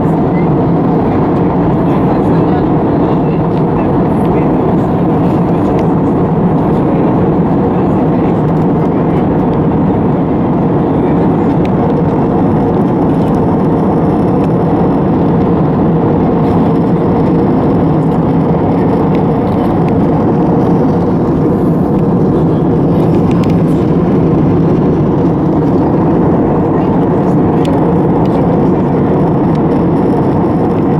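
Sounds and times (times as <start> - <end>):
airplane cabin noise: 0.0 - 30.9.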